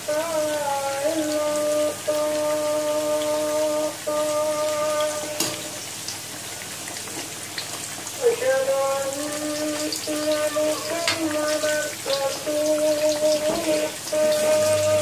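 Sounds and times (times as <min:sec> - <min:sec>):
person singing long notes: 0:00.0 - 0:05.8, 0:08.2 - 0:15.0
food deep-frying in oil: 0:00.0 - 0:15.0.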